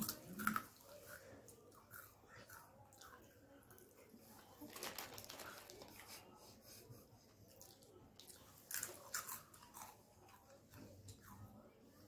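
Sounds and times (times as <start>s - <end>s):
chewing with crisp crunches: 0.0s - 6.0s, 7.5s - 11.6s.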